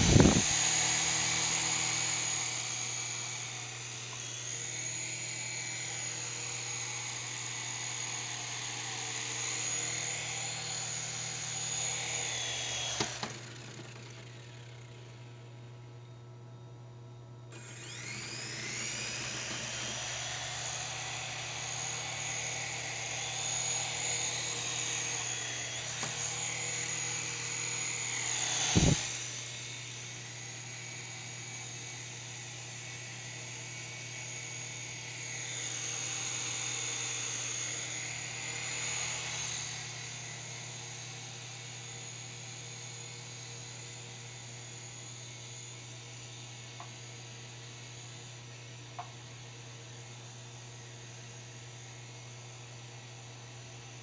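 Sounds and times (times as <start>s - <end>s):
toy helicopter rotors whining: 0.0s - 15.3s, 17.5s - 49.0s.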